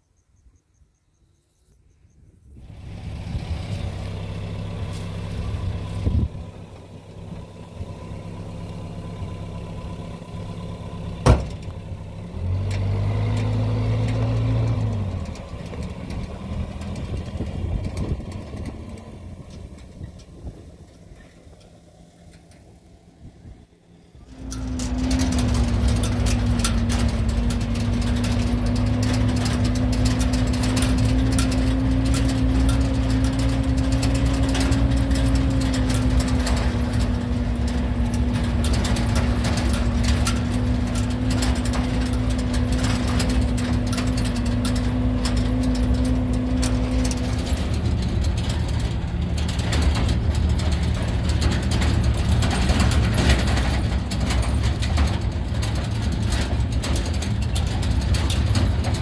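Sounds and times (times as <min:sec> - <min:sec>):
engine rumbling: 0:00.0 - 0:59.0
light rattling: 0:03.6 - 0:59.0.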